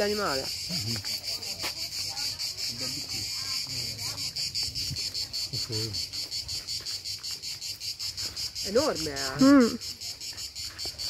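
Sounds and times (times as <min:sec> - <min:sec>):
insect chorus pulsing: 0:00.0 - 0:11.0.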